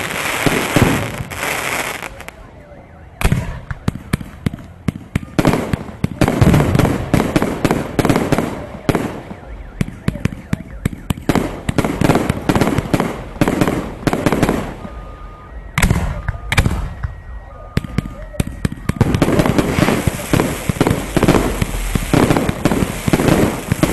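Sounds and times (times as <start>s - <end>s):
firework cracks and bangs: 0.0s - 2.3s, 3.2s - 14.9s, 15.8s - 17.2s, 17.8s - 23.9s.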